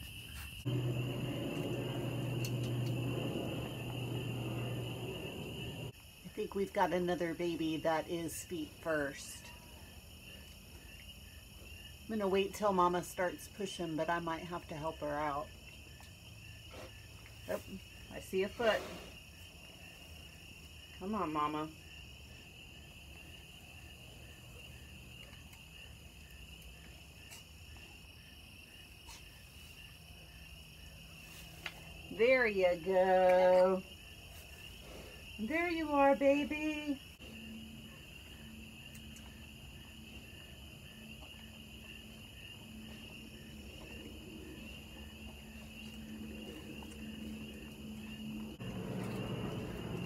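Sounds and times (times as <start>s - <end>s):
crickets trilling: 0.0s - 50.0s
insect chirping: 0.0s - 50.0s
night insects chirring: 0.0s - 50.0s.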